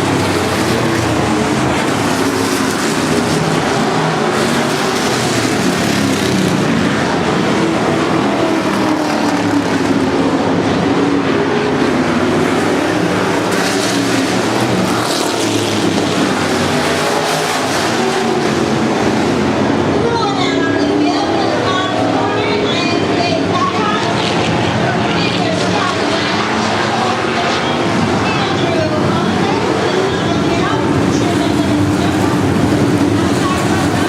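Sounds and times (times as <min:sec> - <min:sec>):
racing engines droning: 0:00.0 - 0:34.0.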